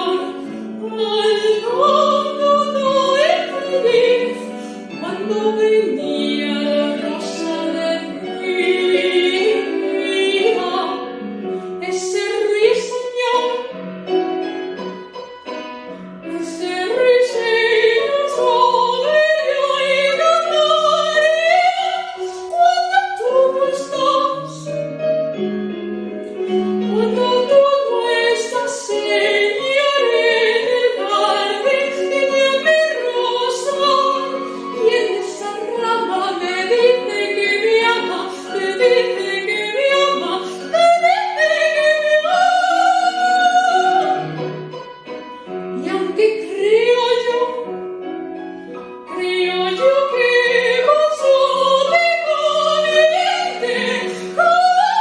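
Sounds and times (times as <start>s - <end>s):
soprano singing operatic aria: 0.0s - 13.9s, 15.9s - 48.0s, 48.7s - 55.0s
instrumental accompaniment: 0.0s - 55.0s.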